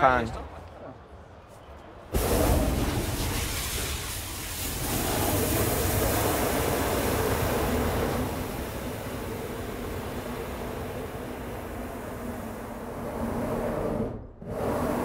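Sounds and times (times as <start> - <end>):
loud rushing roar with rumble: 2.2 - 15.0.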